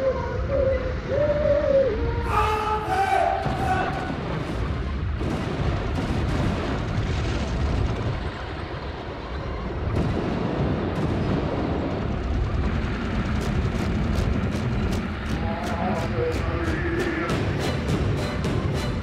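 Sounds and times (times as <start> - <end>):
industrial noise music rumbling: 2.2 - 19.0.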